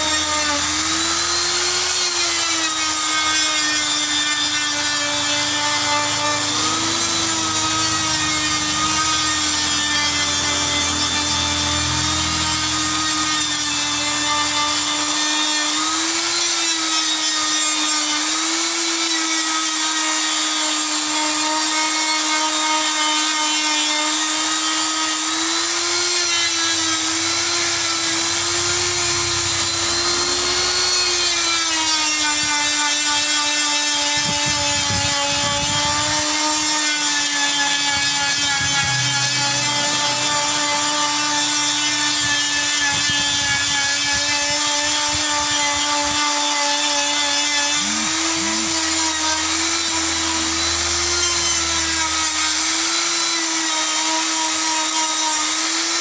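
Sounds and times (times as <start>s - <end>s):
die grinder buffing rubber: 0.0s - 56.0s.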